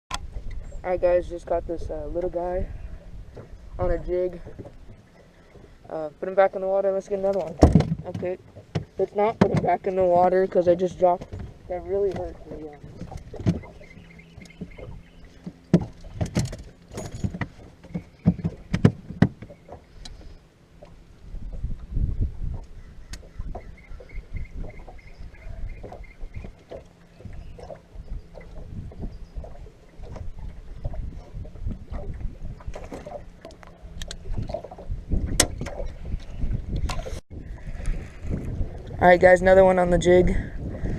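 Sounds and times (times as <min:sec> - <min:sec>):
knocks and thumps on a boat: 0:00.1 - 0:40.9
wind rumbling on microphone: 0:00.1 - 0:40.9.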